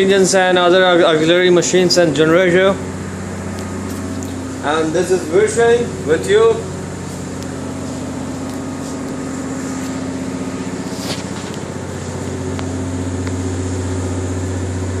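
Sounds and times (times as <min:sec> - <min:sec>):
engine-room machinery hum: 0:00.0 - 0:15.0.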